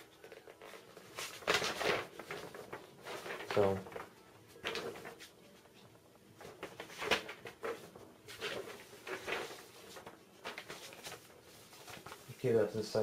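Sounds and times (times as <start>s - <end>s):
paper rustling and flapping: 0.0s - 13.0s.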